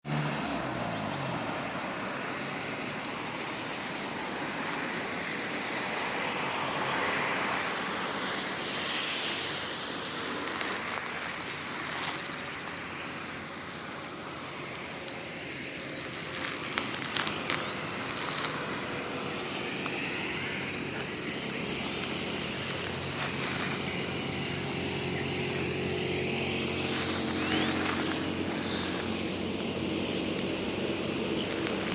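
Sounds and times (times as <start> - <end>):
traffic noise: 0.0 - 31.9
vehicle engine droning: 0.0 - 31.9.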